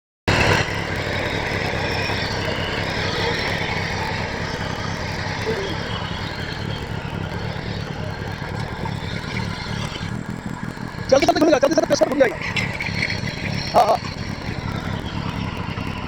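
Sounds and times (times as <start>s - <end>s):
single-cylinder engine running: 0.3s - 16.0s.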